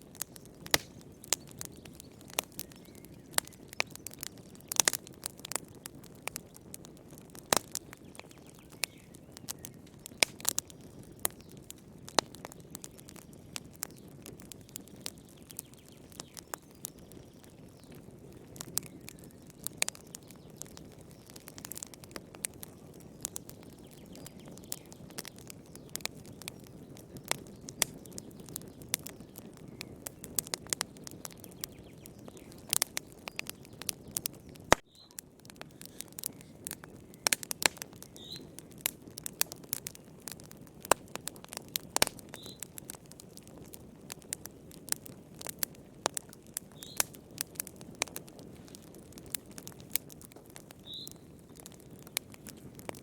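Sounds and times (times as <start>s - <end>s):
fire crackling and popping: 0.0s - 53.0s
flames rumbling: 0.0s - 53.0s.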